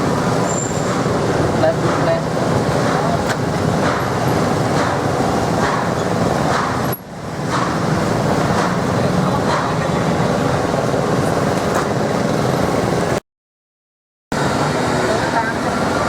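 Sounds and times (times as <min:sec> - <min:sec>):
passing vehicles: 0:00.0 - 0:13.2, 0:14.4 - 0:16.0.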